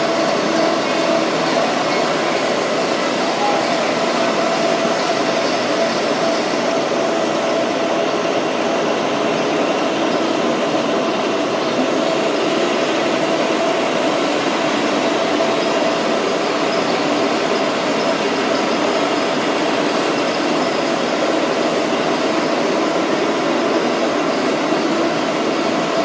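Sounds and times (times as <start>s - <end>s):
floor grinding machine humming: 0.0s - 26.0s
industrial vacuum cleaner: 0.0s - 26.0s.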